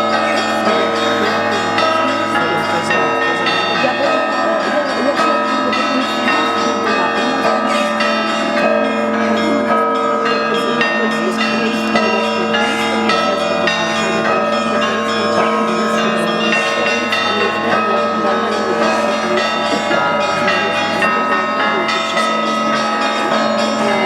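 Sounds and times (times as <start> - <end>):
church bells pealing: 0.0 - 24.0
low bell hum: 0.0 - 24.0.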